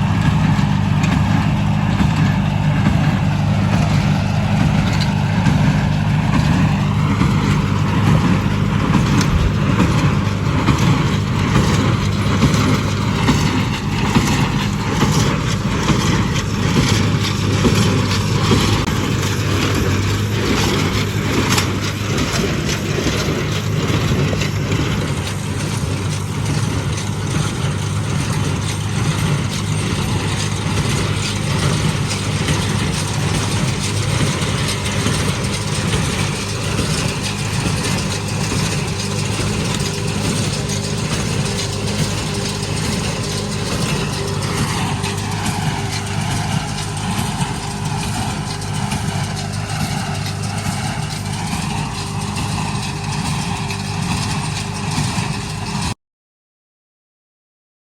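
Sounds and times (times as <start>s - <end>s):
baler machinery working: 0.0s - 55.9s
tractor engine running: 0.0s - 56.0s.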